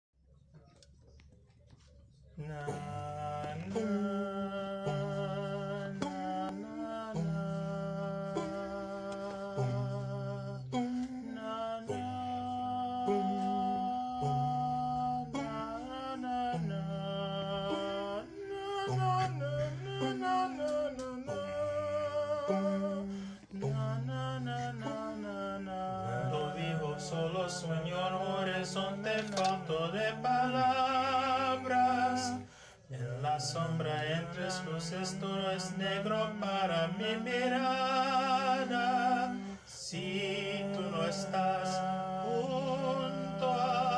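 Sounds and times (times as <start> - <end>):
a cappella choir chords: 2.4 - 43.9.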